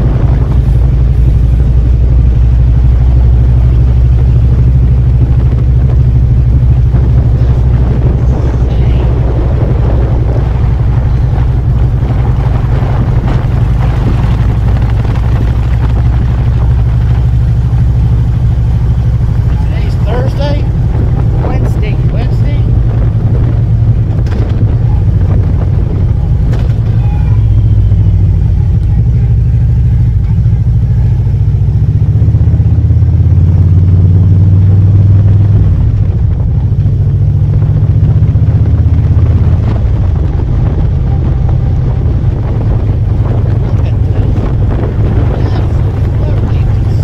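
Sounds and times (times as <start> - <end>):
motorcycle engine running: 0.0 - 47.0
wind noise on microphone: 0.0 - 47.0.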